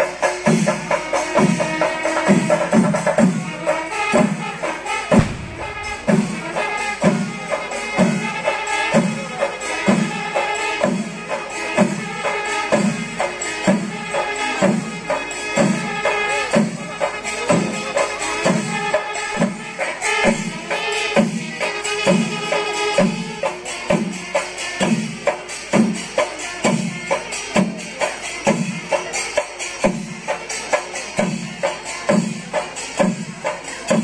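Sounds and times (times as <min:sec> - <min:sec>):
clashing cymbals: 0:00.0 - 0:34.0
drums beating steady beat: 0:00.0 - 0:34.0.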